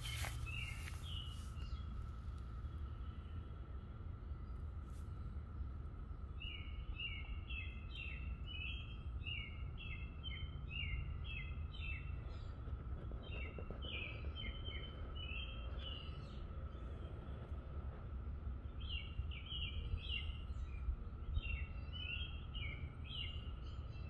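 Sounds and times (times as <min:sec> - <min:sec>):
faint steady hum: 0:00.0 - 0:24.0
low background rumble: 0:00.0 - 0:24.0
songbird chirping: 0:00.0 - 0:24.0.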